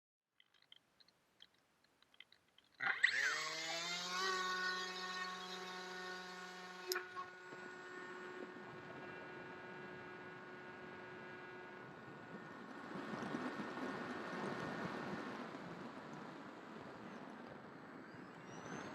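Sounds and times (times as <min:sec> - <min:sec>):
electric motor propeller whine: 0:02.8 - 0:18.9.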